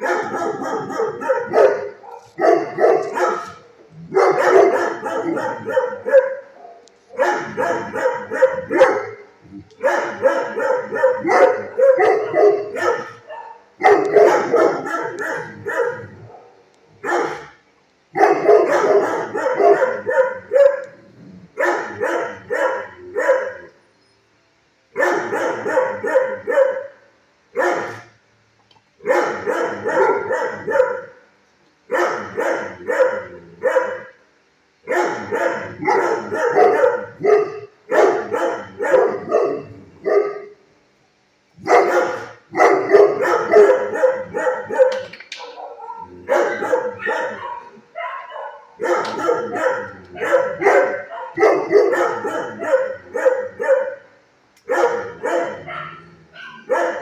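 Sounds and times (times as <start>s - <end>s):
dogs barking: 0.0s - 23.8s, 25.0s - 28.2s, 29.0s - 31.3s, 31.9s - 34.2s, 34.8s - 40.6s, 41.6s - 57.0s.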